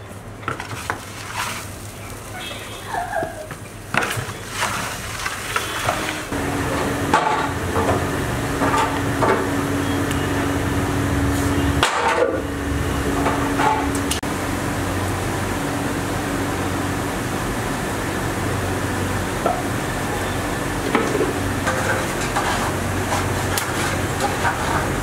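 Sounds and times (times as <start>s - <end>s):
steady machine hum: 1.2s - 25.0s.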